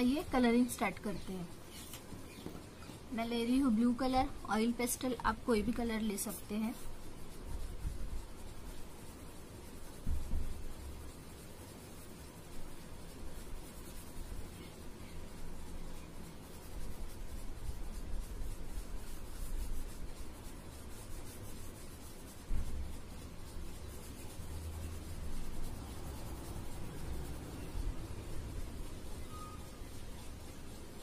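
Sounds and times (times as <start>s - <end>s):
oil pastel scratching on paper: 0.0s - 31.0s.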